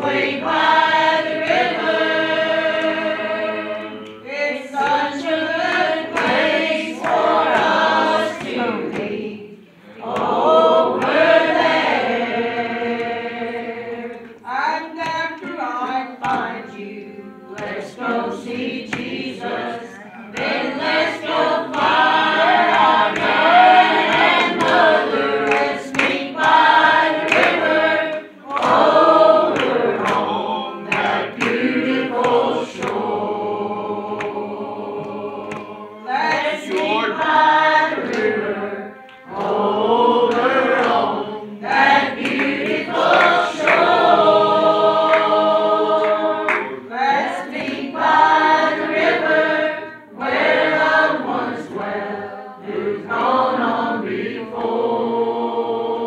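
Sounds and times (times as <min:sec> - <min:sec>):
hands clapping along: 0:00.0 - 0:55.5
congregation singing gospel song: 0:00.0 - 0:56.0.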